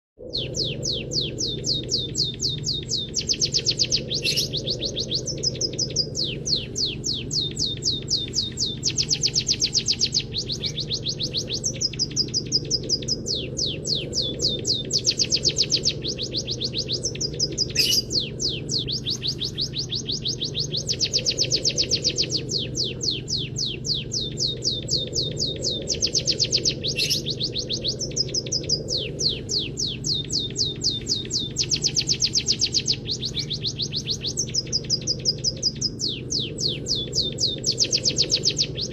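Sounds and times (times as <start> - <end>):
steady low hum: 0.2 - 38.9
canary trilling song: 0.3 - 38.9.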